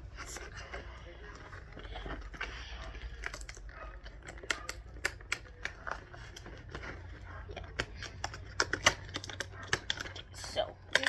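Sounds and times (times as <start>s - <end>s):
packaging clicks and taps: 0.3s - 11.0s.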